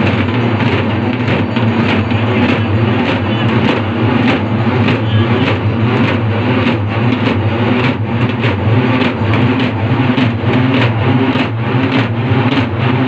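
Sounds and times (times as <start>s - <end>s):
drums playing: 0.0s - 13.0s.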